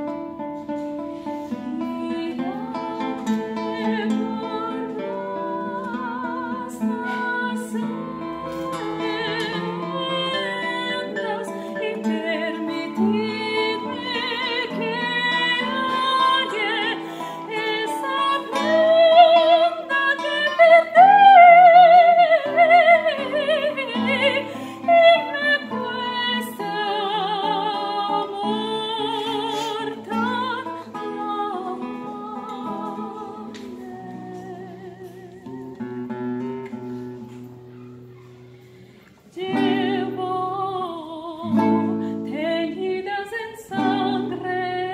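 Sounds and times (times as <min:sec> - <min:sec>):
woman singing classical style: 0:00.0 - 0:37.2, 0:39.2 - 0:44.9
plucked classical guitar: 0:00.0 - 0:44.9.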